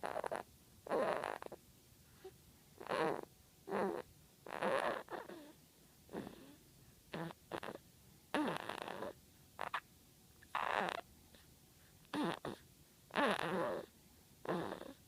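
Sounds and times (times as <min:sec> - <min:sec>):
kitten snoring: 0:00.0 - 0:01.6, 0:02.8 - 0:09.8, 0:10.5 - 0:11.5, 0:12.1 - 0:15.0.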